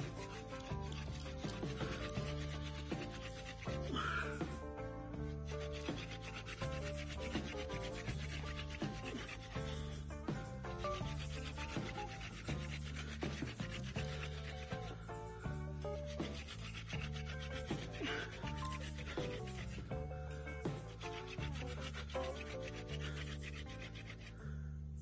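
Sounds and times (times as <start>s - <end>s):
wooden spindle rasping on board: 0.0s - 15.2s, 15.8s - 20.0s, 20.7s - 24.4s
background music: 0.0s - 25.0s.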